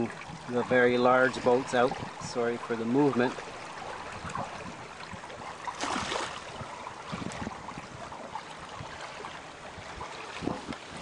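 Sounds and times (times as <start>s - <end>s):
water splashing against hull: 0.0s - 11.0s.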